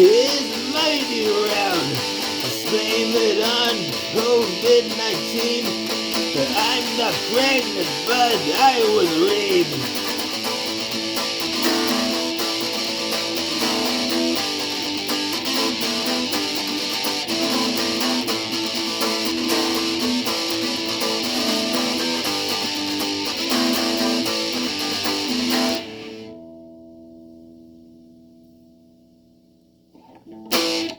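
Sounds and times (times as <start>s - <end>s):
guitars strummed over band: 0.0s - 26.9s, 30.0s - 30.9s.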